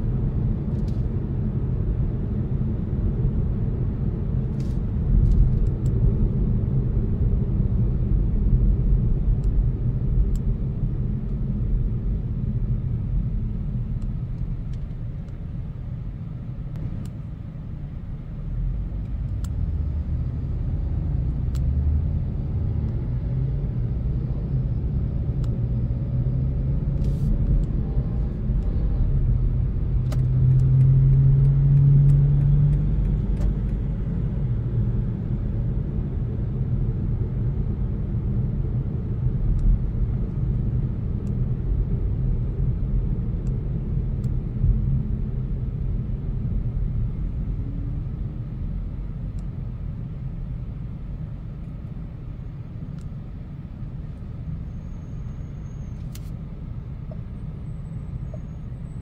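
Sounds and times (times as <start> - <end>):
diesel engine hum: 0.0 - 59.0
road rumble: 0.0 - 59.0.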